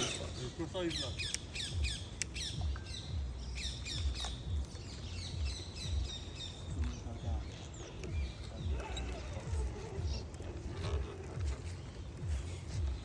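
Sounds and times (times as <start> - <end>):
birds squawking: 0.0 - 13.0.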